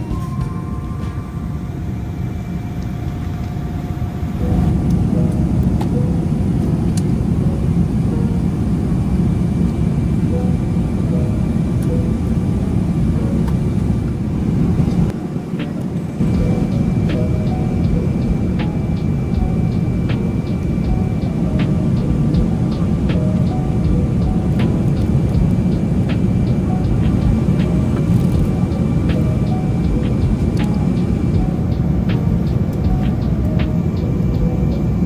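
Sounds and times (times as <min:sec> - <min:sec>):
jet airliner rumble: 0:00.0 - 0:35.0.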